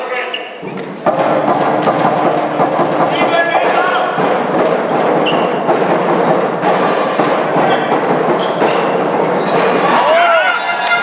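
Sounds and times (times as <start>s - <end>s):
crowd noise: 0.0s - 11.0s
ball bouncing on floor: 0.6s - 9.8s.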